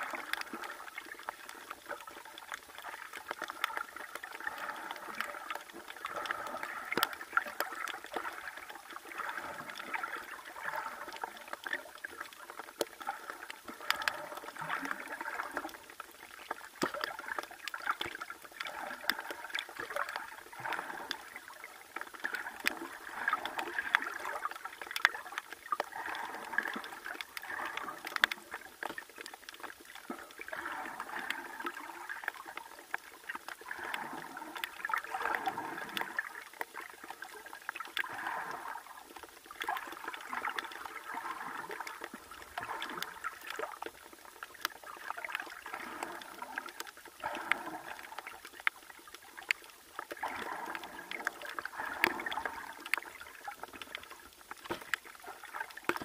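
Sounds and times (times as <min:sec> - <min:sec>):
muffled underwater gurgling: 0:00.0 - 0:56.0.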